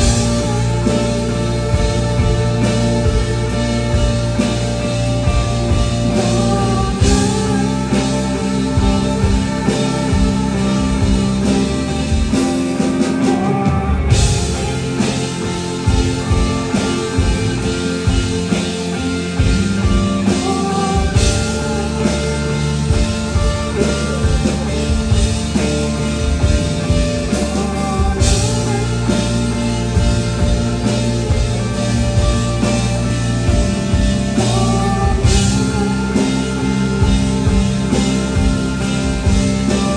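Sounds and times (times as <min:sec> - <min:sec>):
drum kit: 0:00.0 - 0:39.9
electric guitar: 0:00.0 - 0:39.9
man singing: 0:00.0 - 0:39.9.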